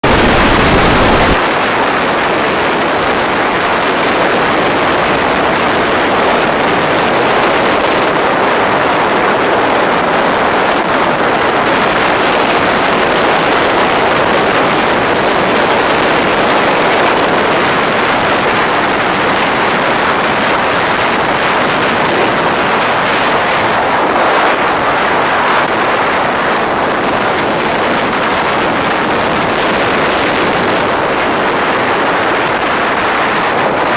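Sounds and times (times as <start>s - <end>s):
sea waves rushing: 0.0s - 33.9s.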